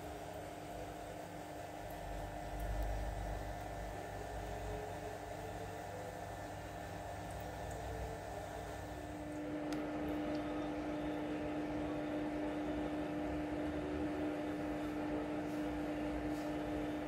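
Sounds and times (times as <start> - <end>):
aquarium pump hum: 0.0 - 17.0.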